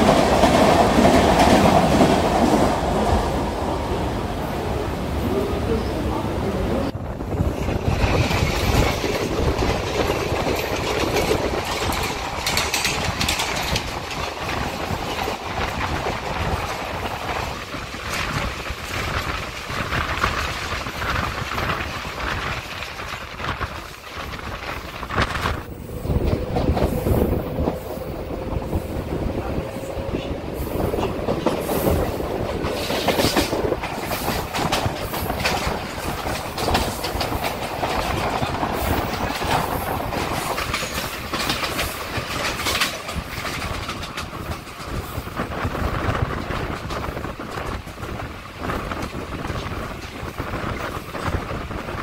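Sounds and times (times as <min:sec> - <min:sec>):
train wheels rumbling and clacking: 0:00.0 - 0:52.0.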